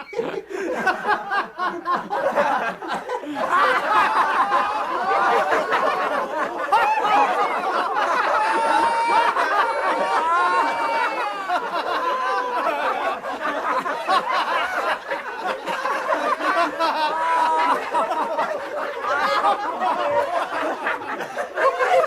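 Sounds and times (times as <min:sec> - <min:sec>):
men laughing: 0:00.0 - 0:22.0.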